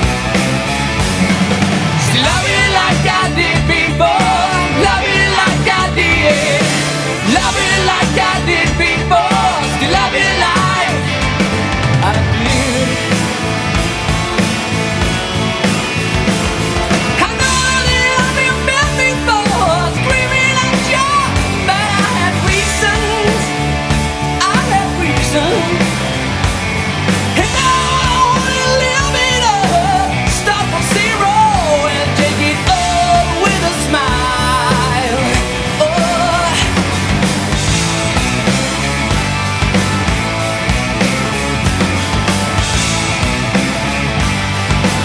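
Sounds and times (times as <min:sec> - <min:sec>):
loud rock music: 0:00.0 - 0:45.0.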